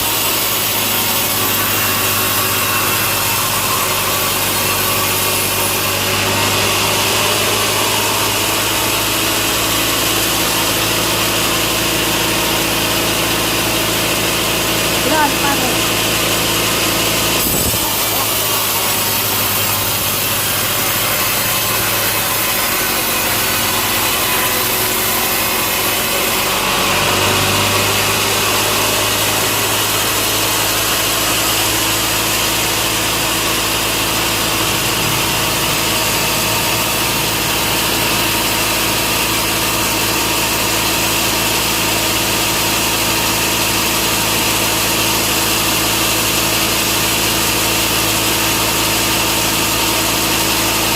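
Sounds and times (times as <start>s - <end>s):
power saw cutting log: 0.0s - 50.9s.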